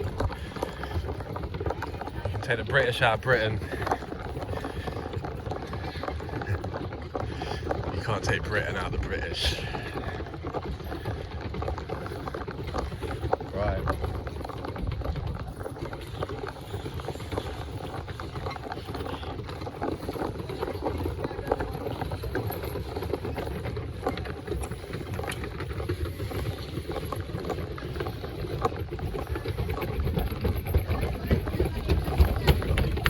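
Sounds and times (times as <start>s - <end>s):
boat engine rumble: 0.0s - 33.0s.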